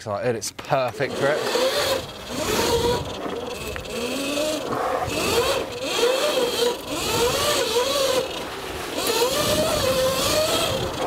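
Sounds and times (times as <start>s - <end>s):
electric motor whining: 0.8s - 11.0s.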